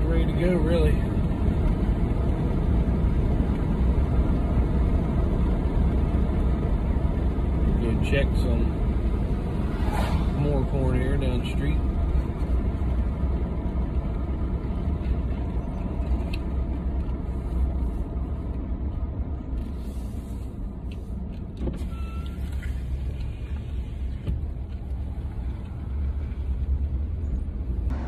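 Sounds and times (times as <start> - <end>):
road noise: 0.0 - 28.0
vehicle engine rumble: 0.0 - 28.0.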